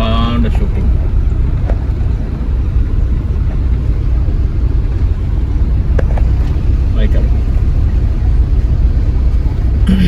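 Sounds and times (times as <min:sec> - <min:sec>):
moving vehicle rumble: 0:00.0 - 0:10.0.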